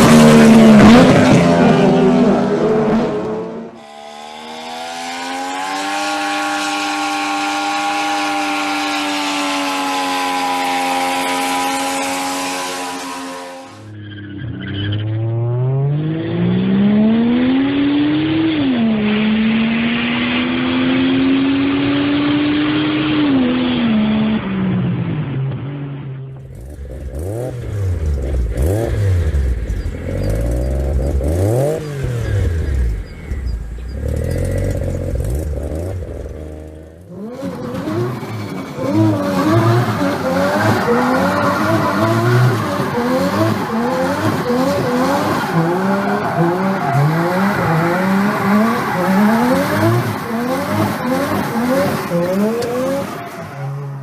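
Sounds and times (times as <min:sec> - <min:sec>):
rotary engine accelerating and revving: 0:00.0 - 0:54.0.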